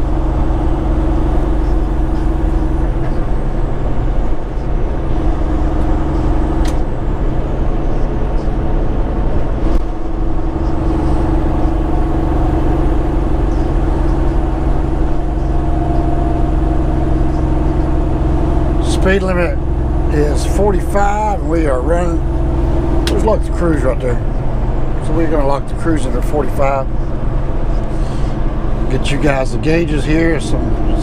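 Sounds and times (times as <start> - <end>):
truck engine and road noise: 0.0 - 31.0.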